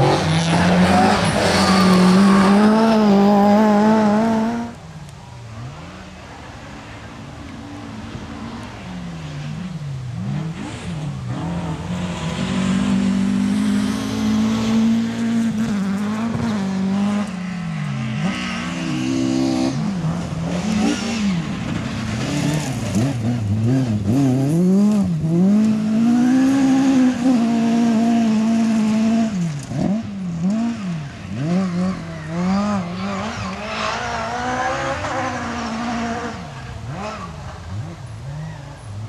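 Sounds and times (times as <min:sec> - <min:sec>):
rally car engine revving hard: 0:00.0 - 0:04.8, 0:09.4 - 0:17.3, 0:18.0 - 0:38.5.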